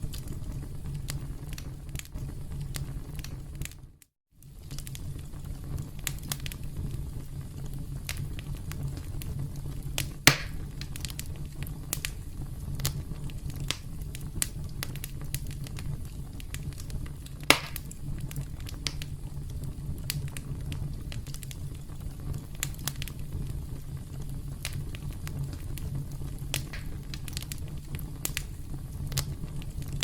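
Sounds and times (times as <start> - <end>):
campfire crackling: 0.0 - 3.8, 4.4 - 30.0
loud fire pops: 0.0 - 3.8, 4.4 - 30.0.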